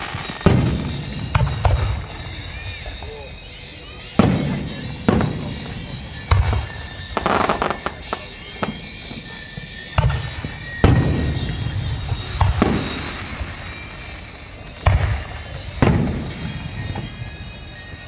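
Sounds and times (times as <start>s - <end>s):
fireworks booming: 0.0s - 18.0s
fireworks crackling: 0.0s - 18.0s.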